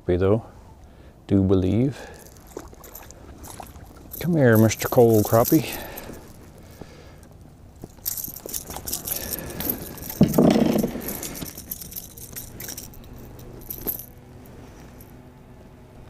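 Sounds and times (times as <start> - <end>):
metallic jingling of fishing lure: 2.0 - 15.2
handling noise: 2.1 - 15.2.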